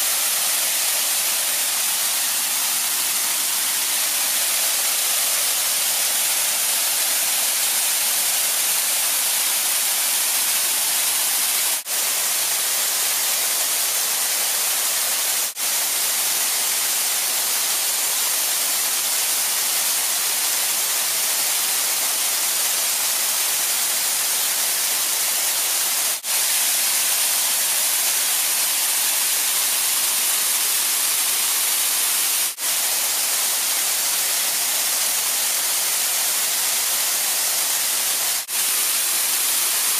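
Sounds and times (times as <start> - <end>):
waterfall rushing: 0.0 - 21.7, 22.6 - 39.9.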